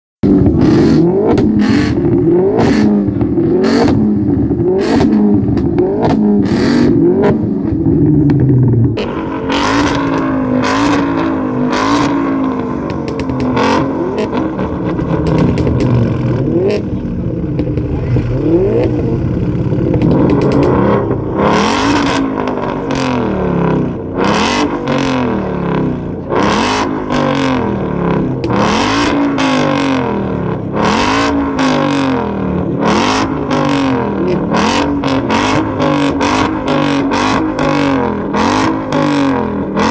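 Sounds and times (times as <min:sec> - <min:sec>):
car engines revving: 0:00.2 - 0:39.9
exhaust cracks: 0:00.2 - 0:39.9.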